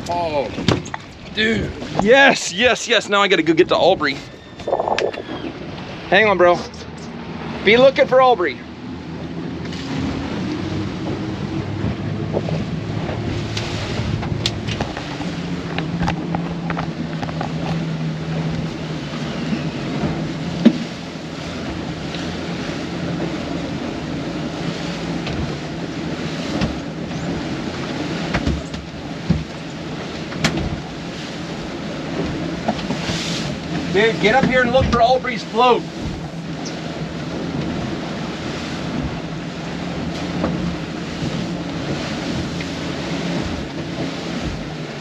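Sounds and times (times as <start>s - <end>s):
outboard motors running: 0.0s - 45.0s
wind and water rushing: 0.0s - 45.0s.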